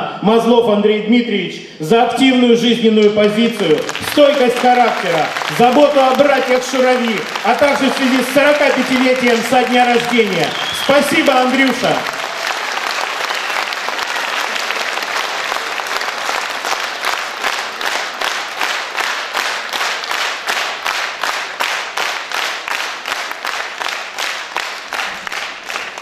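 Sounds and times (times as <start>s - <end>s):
audience applauding: 3.0s - 26.0s.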